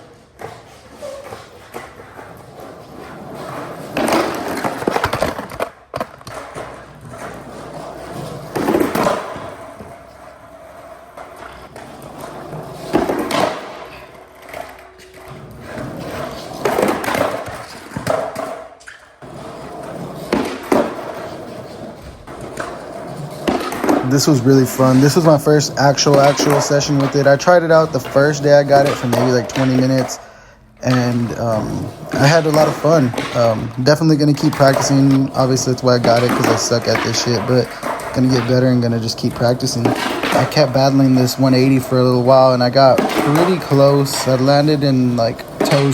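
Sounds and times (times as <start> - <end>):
skateboard clattering on rail: 0.0 - 30.2, 30.8 - 45.9
skateboard wheels rolling: 0.0 - 45.9.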